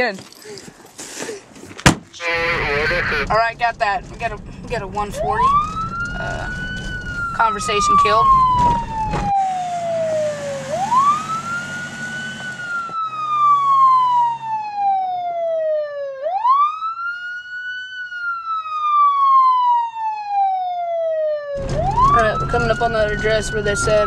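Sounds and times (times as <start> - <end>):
police siren wailing: 2.2 - 3.5, 4.3 - 24.0.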